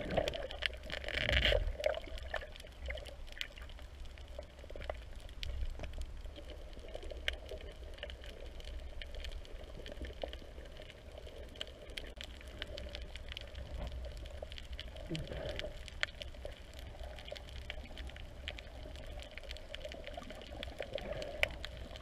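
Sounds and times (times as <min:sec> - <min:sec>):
muffled rumble of moving water: 0:00.0 - 0:22.0
sharp clicks and crackles: 0:00.0 - 0:22.0.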